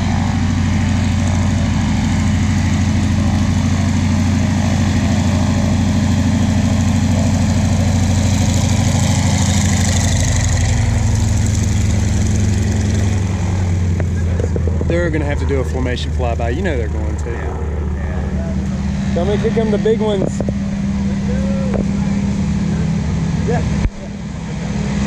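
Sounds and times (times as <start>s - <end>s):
radial aircraft engine running: 0.0s - 25.0s.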